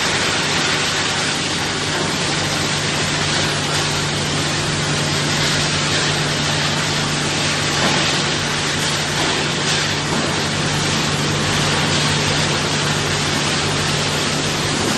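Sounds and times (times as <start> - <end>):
machinery low hum: 0.0 - 14.9.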